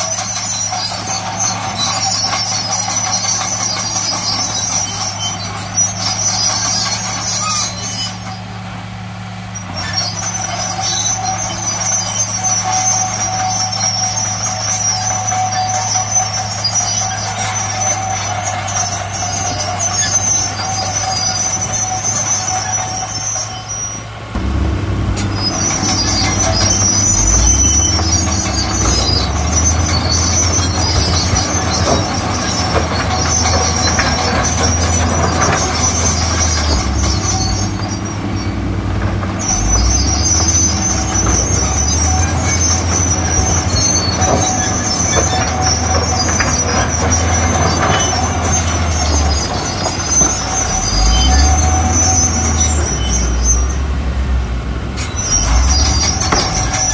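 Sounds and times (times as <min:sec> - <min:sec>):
metallic squeals and knocks: 0:00.0 - 0:08.6, 0:09.5 - 0:56.9
diesel engine of earthmoving machine: 0:00.0 - 0:56.9.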